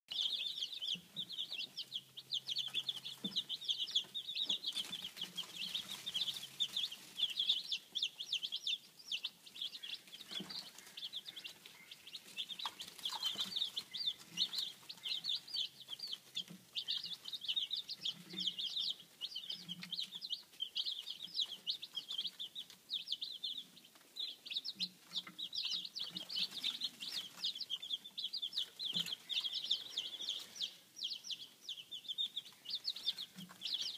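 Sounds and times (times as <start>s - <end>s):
chicks peeping: 0.1s - 33.9s.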